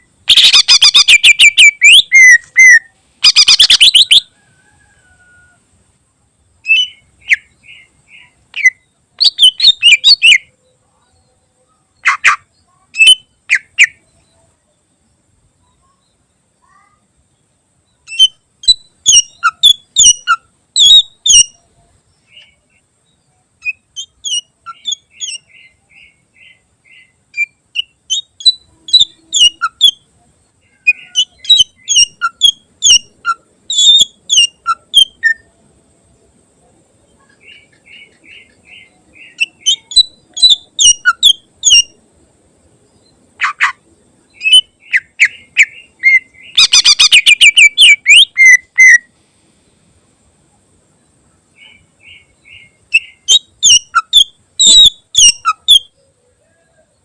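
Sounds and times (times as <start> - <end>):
bird singing chirps and trills: 0.0 - 4.3, 6.6 - 35.6, 37.0 - 42.0, 42.8 - 49.1, 51.0 - 57.0.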